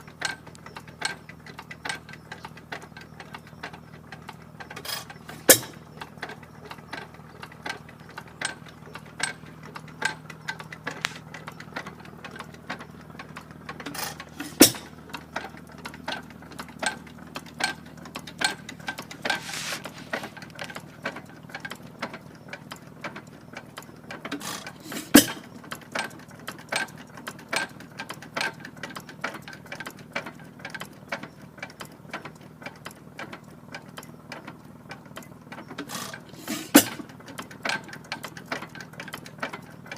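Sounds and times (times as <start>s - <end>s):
stationary engine clicking: 0.0s - 39.9s.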